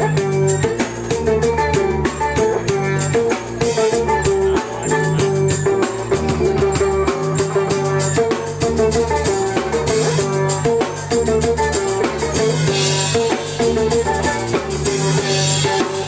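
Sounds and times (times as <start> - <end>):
bass line: 0.0 - 16.0
steady drum beat: 0.0 - 16.0
violin melody: 0.0 - 16.0.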